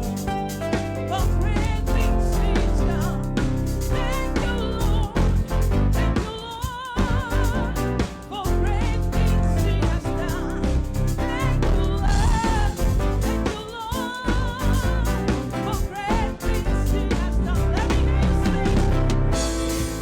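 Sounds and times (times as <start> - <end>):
bass and drum groove: 0.0 - 20.0
person singing with vibrato: 0.0 - 20.0.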